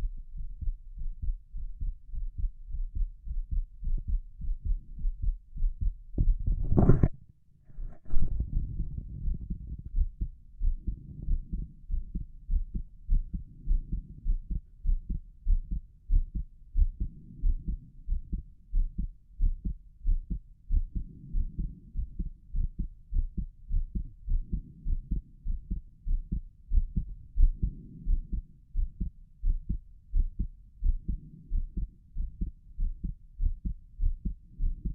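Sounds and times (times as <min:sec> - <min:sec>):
heartbeat through stethoscope: 0:00.0 - 0:34.9.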